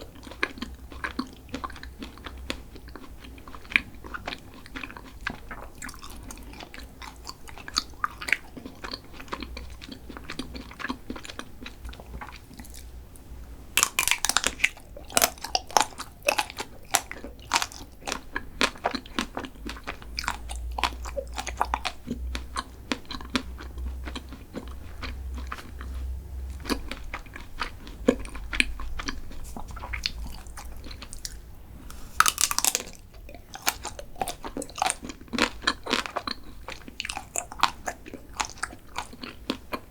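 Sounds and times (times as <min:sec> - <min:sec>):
crunchy chewing of snacks: 0:00.0 - 0:39.9.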